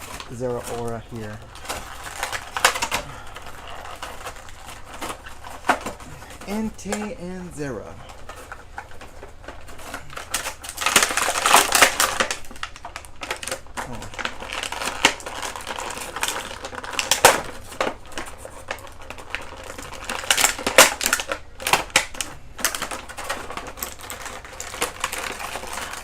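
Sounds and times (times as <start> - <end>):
plastic packaging clicking and crinkling: 0.0 - 26.0.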